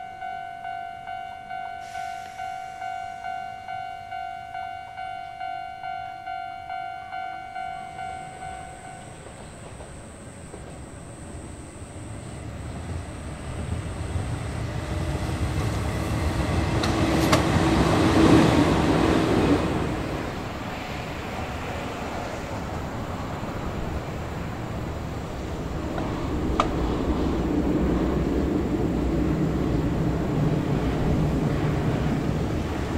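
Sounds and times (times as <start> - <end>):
electric train humming: 0.0 - 32.9.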